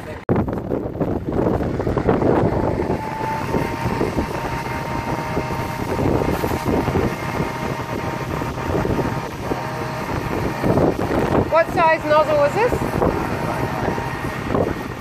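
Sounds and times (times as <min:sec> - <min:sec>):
tractor engine running: 0:00.0 - 0:15.0
wind noise on microphone: 0:00.0 - 0:15.0
sprayer boom spraying: 0:01.6 - 0:15.0.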